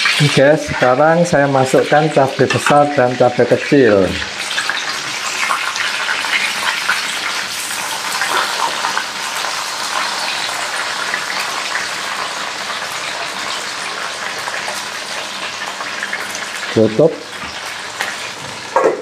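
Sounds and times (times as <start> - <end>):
vegetables sizzling in hot oil: 0.0 - 18.8.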